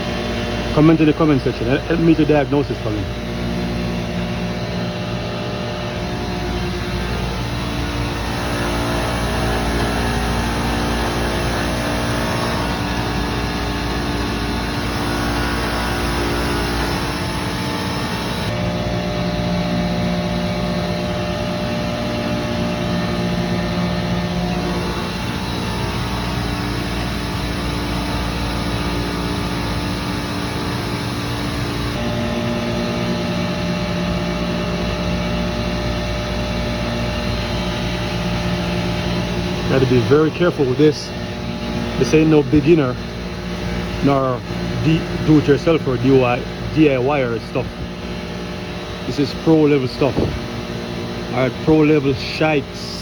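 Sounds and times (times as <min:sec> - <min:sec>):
chiller machinery drone: 0:00.0 - 0:53.0.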